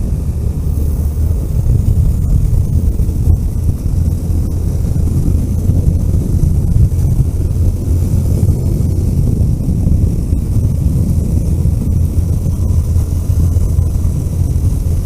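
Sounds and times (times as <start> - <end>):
vehicle engine and road noise: 0.0 - 15.0
wind buffeting: 0.0 - 15.0.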